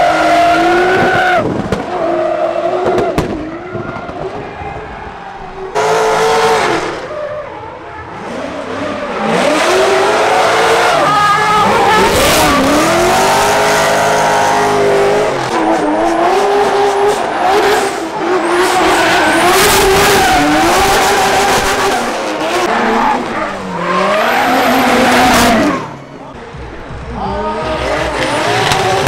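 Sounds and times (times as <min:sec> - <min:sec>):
car engines revving high: 0:00.0 - 0:29.0.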